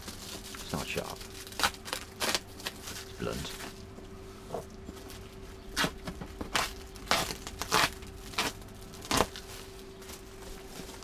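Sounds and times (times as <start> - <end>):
plastic wrapping crinkling and tearing: 0.0 - 3.9, 5.8 - 11.0.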